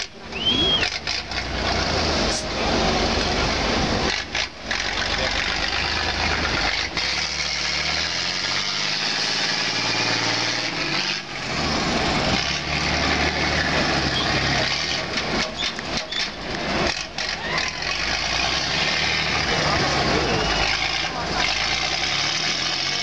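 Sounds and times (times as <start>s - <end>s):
heavy truck engine under load: 0.0s - 23.0s.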